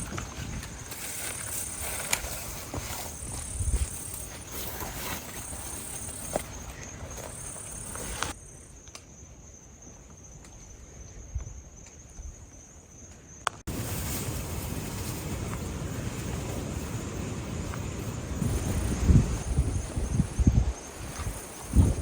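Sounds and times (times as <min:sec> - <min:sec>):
higher insect call: 0:00.0 - 0:22.0
insects trilling: 0:00.0 - 0:22.0.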